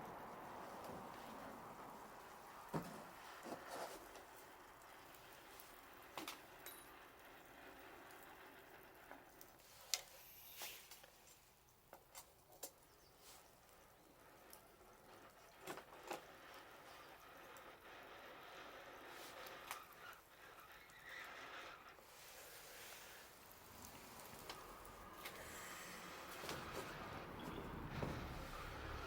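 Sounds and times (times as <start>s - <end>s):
bonfire crackling: 0.0s - 12.7s, 13.6s - 29.0s.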